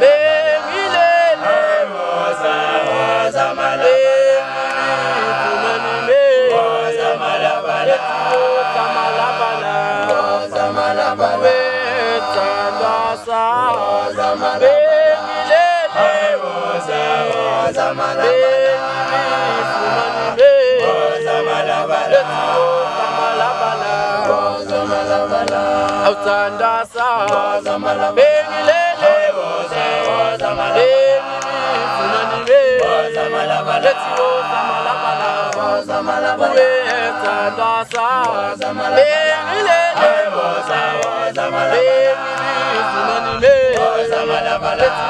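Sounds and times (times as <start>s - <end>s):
male group singing a cappella: 0.0s - 45.0s.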